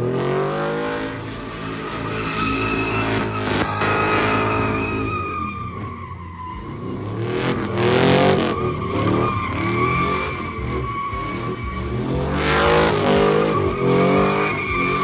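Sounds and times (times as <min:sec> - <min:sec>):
tires squealing: 0:00.0 - 0:15.0
truck engine revving: 0:00.0 - 0:15.0.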